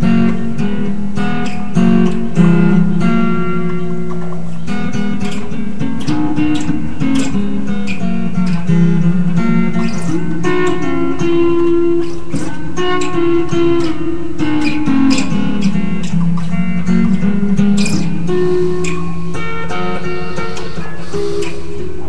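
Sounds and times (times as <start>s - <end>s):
guitar strummed and picked: 0.0s - 22.0s.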